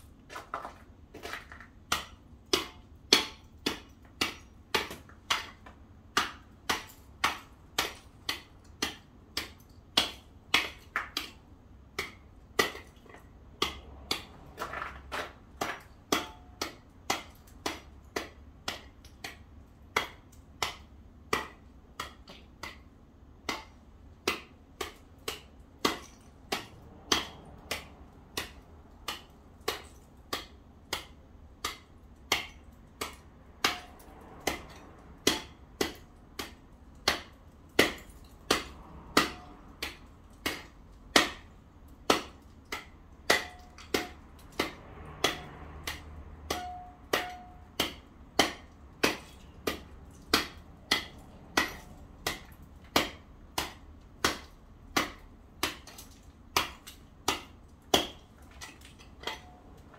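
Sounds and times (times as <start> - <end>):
hand tool striking icy pavement: 0.0 - 59.9.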